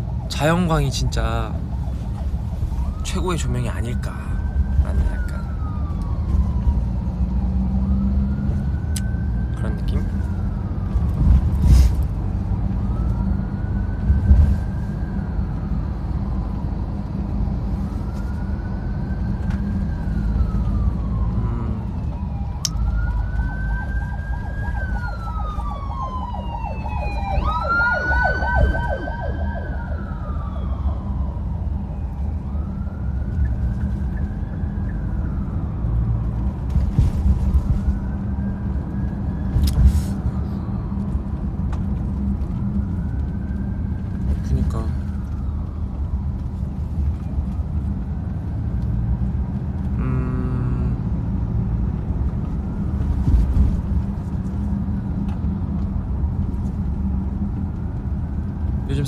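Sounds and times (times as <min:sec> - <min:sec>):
emergency siren wailing: 0:00.0 - 0:59.0
road noise rumble: 0:00.0 - 0:59.0.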